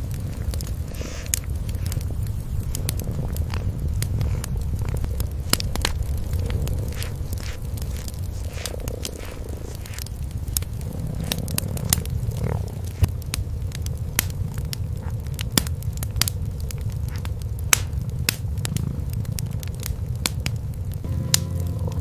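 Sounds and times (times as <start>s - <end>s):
cats purring: 0.0s - 22.0s
wood fire crackling: 0.0s - 22.0s.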